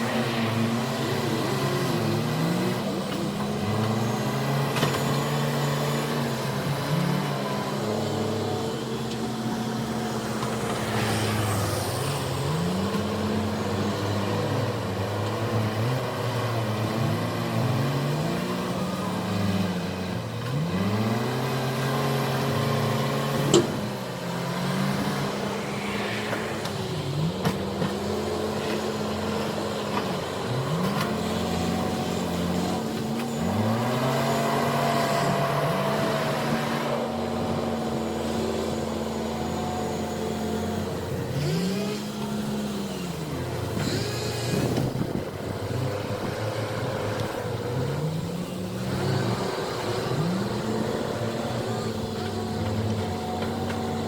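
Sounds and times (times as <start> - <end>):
backhoe diesel engine under load: 0.0 - 54.0.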